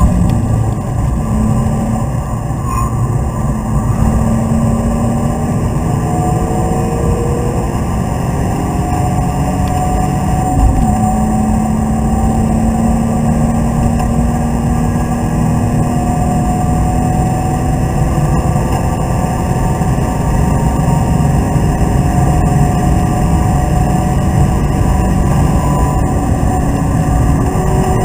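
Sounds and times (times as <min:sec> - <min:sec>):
car engine driven hard: 0:00.0 - 0:28.0.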